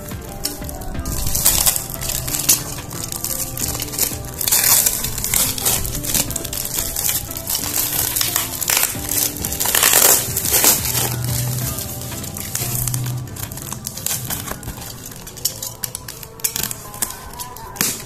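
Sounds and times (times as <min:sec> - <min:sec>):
box cutter slicing tape and cardboard: 0:00.0 - 0:18.0
cardboard crackling and tearing: 0:00.0 - 0:18.0.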